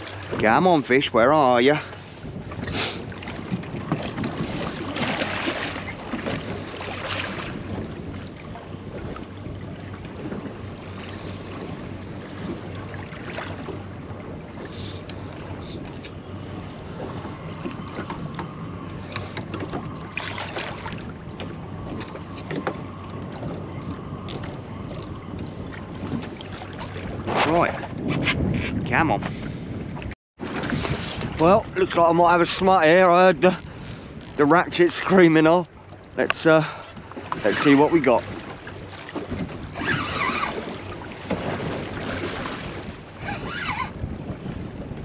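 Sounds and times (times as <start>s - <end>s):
water lapping against boat hull: 0.0s - 45.0s
wind buffeting microphone: 0.0s - 45.0s.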